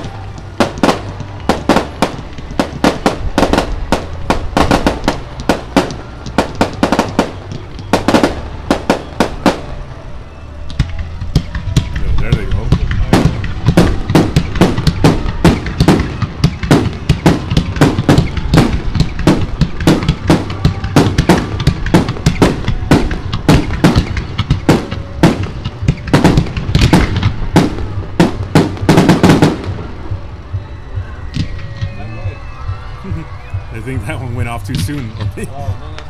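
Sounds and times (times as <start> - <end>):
fireworks bangs: 0.0 - 35.7.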